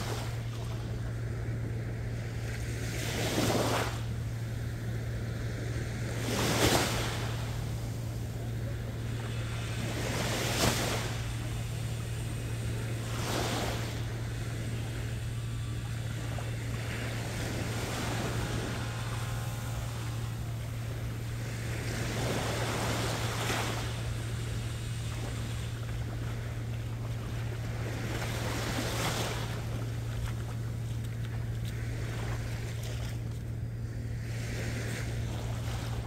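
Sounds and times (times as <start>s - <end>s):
steady low hum: 0.0s - 36.0s
waves splashing against jetty: 0.0s - 36.0s.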